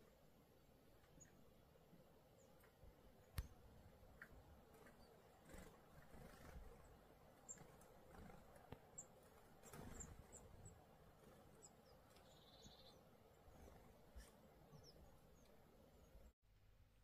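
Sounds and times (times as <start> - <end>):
songbirds chirping: 0.0 - 16.4.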